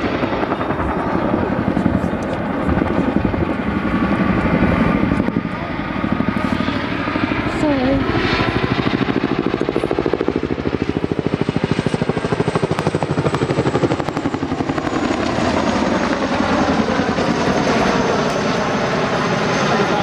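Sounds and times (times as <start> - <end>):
helicopter rotor blades beating: 0.0 - 20.0.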